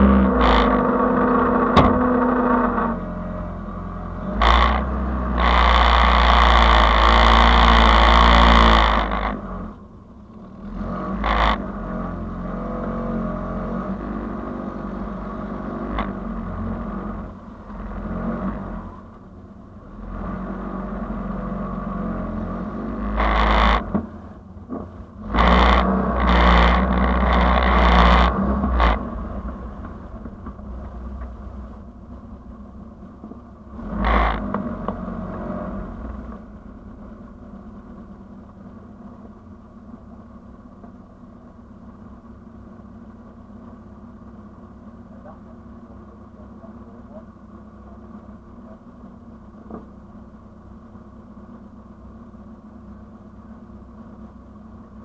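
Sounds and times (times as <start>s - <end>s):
car engine running slowly: 0.0s - 55.0s.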